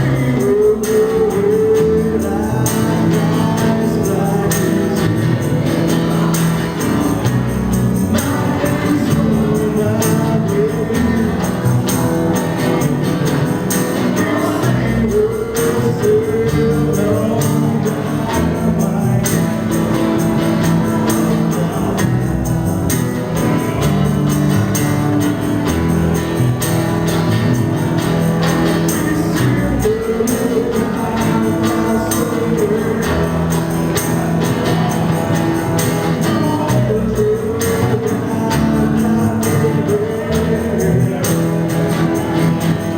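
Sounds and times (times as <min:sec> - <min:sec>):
person singing: 0:00.0 - 0:07.3, 0:08.0 - 0:24.7, 0:28.4 - 0:42.9
cajon percussion: 0:00.0 - 0:42.9
strummed acoustic guitars: 0:00.0 - 0:42.9.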